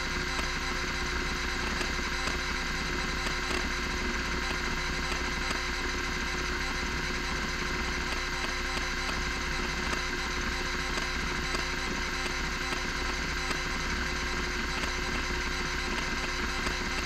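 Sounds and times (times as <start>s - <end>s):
hard drive motor humming and whining: 0.0s - 17.0s
rapid irregular drive head clicking: 0.1s - 17.0s.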